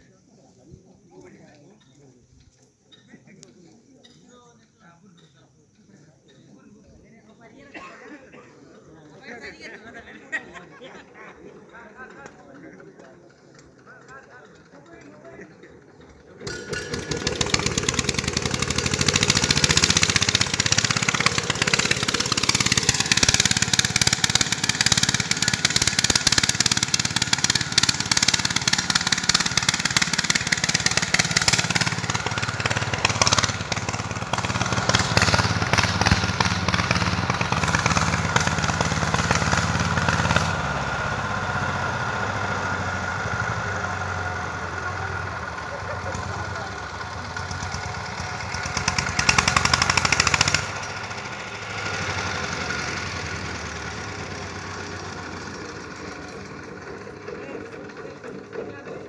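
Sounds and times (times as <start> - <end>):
vehicle engine running: 8.5 - 59.0.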